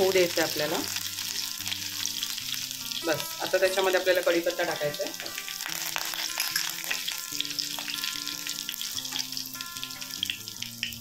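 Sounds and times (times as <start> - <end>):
leaves and garlic sizzling in oil: 0.0 - 11.0.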